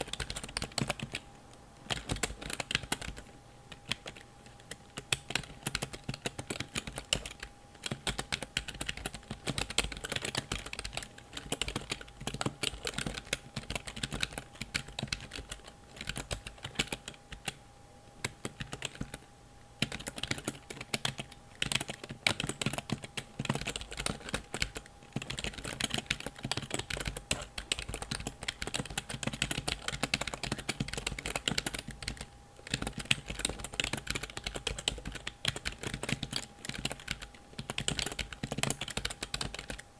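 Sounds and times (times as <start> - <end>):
computer keyboard typing: 0.0 - 1.2, 1.8 - 17.6, 18.2 - 39.9.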